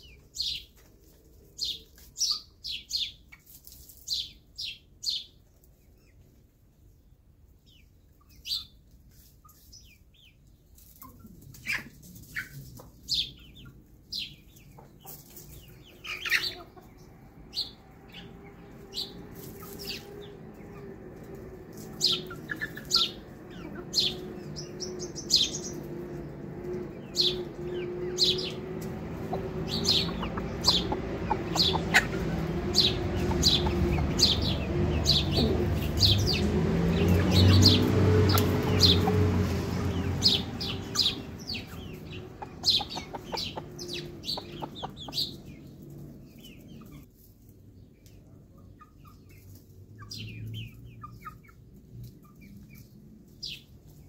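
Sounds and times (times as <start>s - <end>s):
birds chirping: 0.0s - 0.8s, 9.5s - 54.0s.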